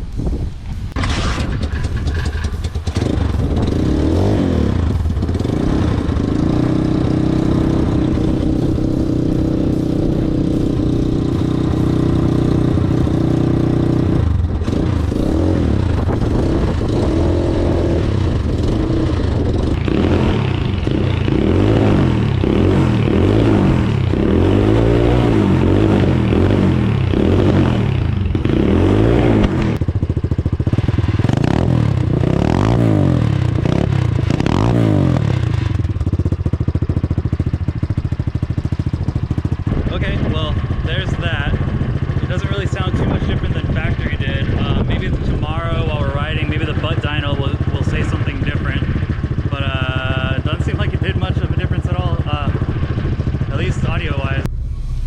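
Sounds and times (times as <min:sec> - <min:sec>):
dirt bike engine idling and revving: 0:00.0 - 0:55.0.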